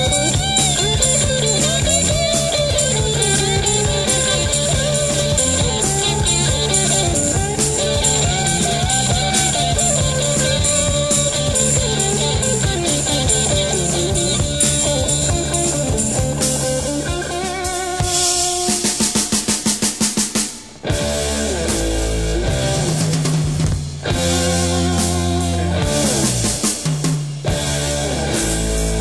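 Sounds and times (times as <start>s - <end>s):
electric guitar lead: 0.0s - 19.6s, 20.8s - 29.0s
bass: 0.0s - 29.0s
drum kit with cymbals: 0.0s - 29.0s.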